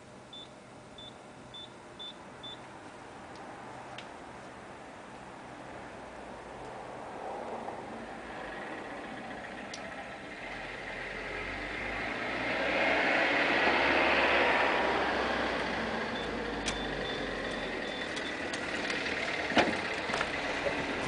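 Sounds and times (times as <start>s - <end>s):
road vehicle passing: 3.2s - 21.0s.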